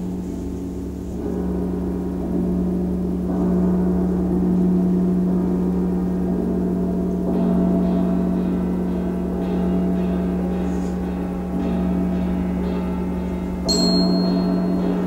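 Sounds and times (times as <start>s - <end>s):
large gong ringing: 0.0s - 15.0s.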